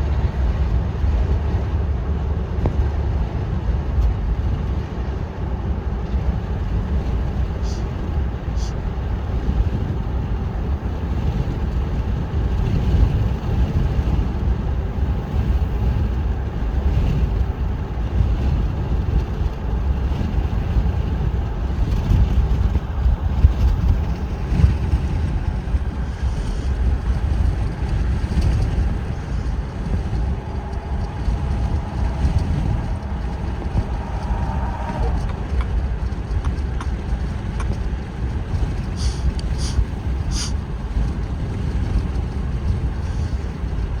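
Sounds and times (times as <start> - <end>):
car road and wind rumble: 0.0 - 44.0.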